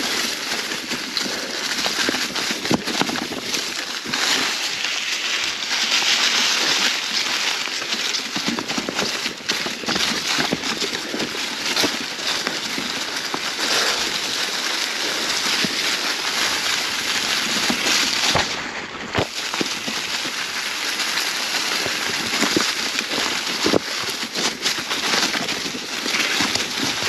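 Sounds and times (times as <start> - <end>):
bike clicking and rattling: 0.0 - 27.0
bike tyres crunching dry leaves: 0.0 - 27.0.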